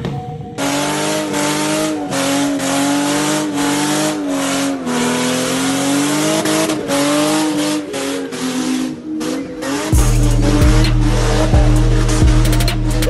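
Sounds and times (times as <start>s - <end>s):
car engine at high revs: 0.5s - 13.0s.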